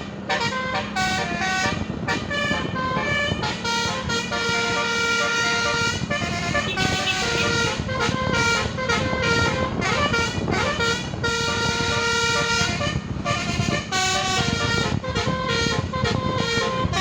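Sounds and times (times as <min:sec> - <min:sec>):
multi-tone bus horn playing tune: 0:00.0 - 0:17.0.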